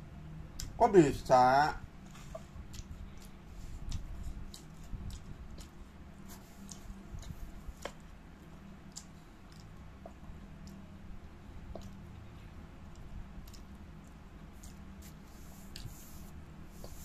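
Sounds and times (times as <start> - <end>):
low steady hum: 0.0 - 17.0
person chewing: 0.5 - 0.8, 2.0 - 10.8, 11.6 - 17.0.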